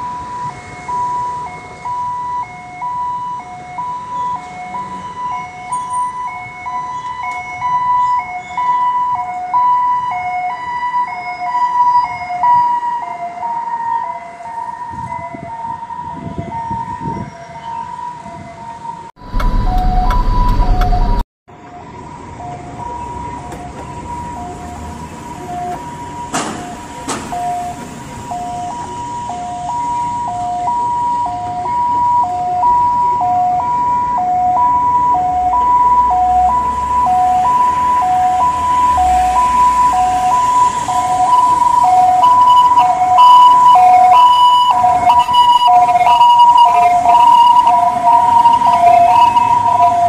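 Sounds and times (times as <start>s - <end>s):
ambulance siren two-tone: 0.0s - 50.0s.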